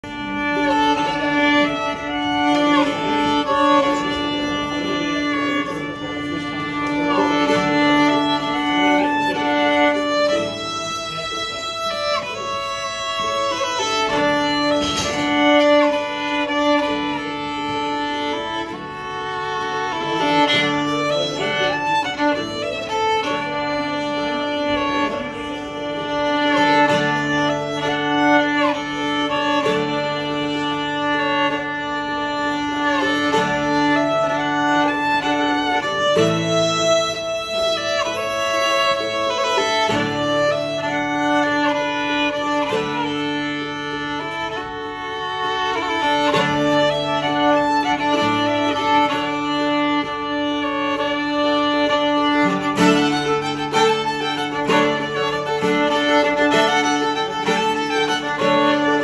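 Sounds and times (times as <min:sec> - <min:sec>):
fiddle playing a tune: 0:00.0 - 0:59.0
strummed acoustic guitar: 0:00.0 - 0:59.0.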